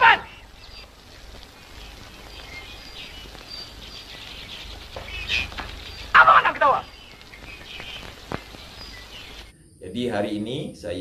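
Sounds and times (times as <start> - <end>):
high bird chirps: 0.0 - 9.5.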